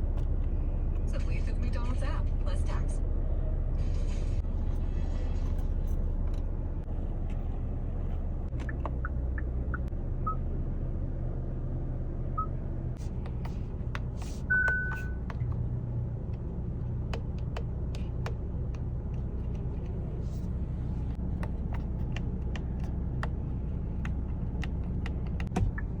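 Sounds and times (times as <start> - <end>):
car engine running: 0.0 - 2.8, 3.8 - 26.0.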